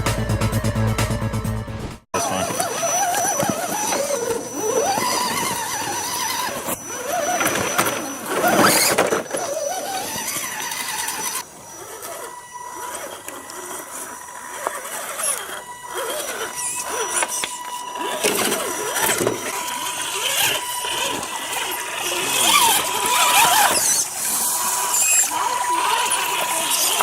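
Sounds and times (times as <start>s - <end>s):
small electric motor whining: 2.2s - 27.0s.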